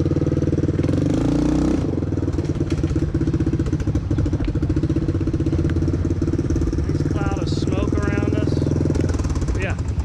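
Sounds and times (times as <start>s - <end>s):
atv engine running hard: 0.0s - 10.0s.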